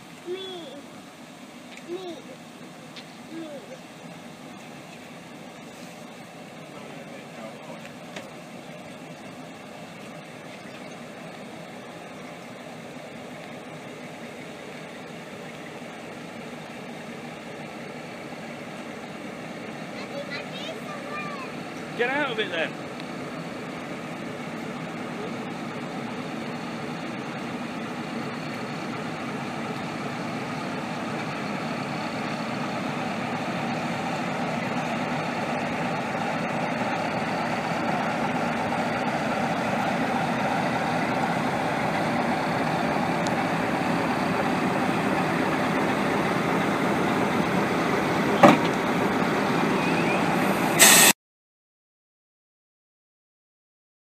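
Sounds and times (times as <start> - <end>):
diesel locomotive engine running: 0.0 - 51.2.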